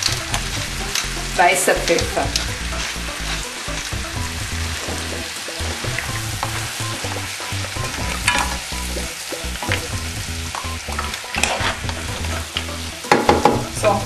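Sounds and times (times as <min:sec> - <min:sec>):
seafood sizzling in a pan: 0:00.0 - 0:14.0.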